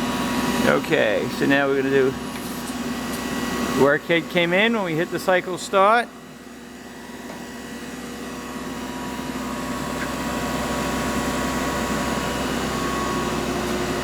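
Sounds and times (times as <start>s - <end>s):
grinder machine hum: 0.0s - 14.0s.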